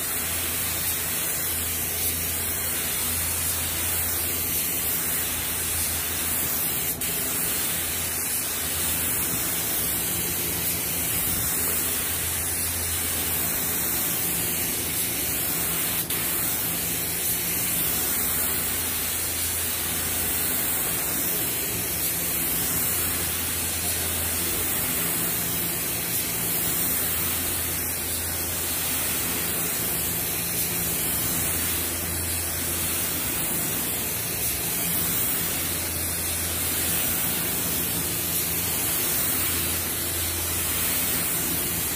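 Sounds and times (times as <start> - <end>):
spray gun hissing: 0.0 - 41.9.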